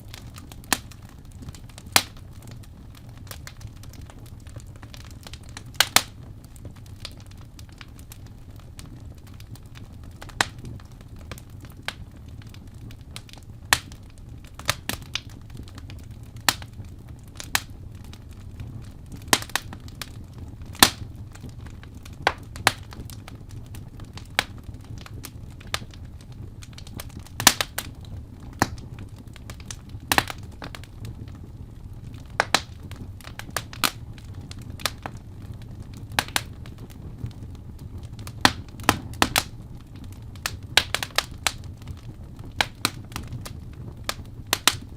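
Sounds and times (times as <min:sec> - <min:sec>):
fire popping: 0:00.0 - 0:44.9
wood fire crackling: 0:00.0 - 0:44.9.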